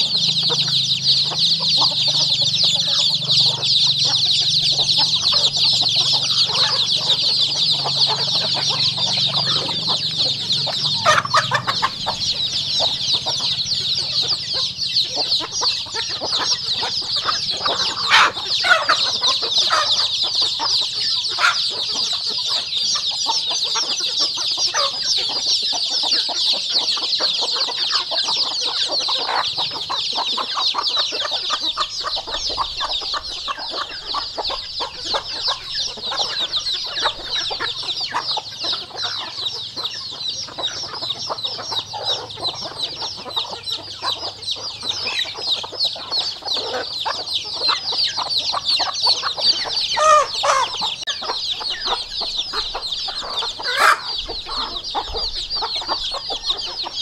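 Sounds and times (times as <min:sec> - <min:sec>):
chicks peeping: 0:00.0 - 0:57.0
louder lower chick calls: 0:00.0 - 0:57.0.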